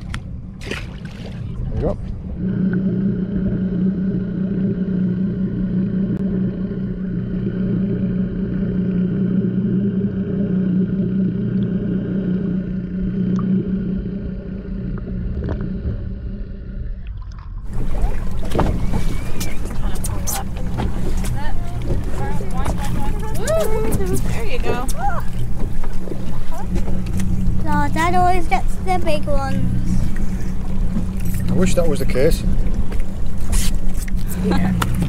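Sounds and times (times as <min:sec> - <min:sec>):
low underwater hum: 0:00.0 - 0:35.0
open-air water noise: 0:00.0 - 0:35.0.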